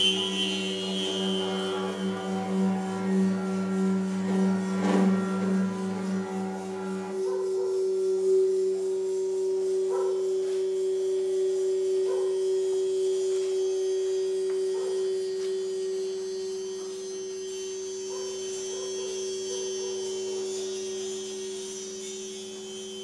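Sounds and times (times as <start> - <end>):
percussion instrument ringing tone: 0.0 - 23.0.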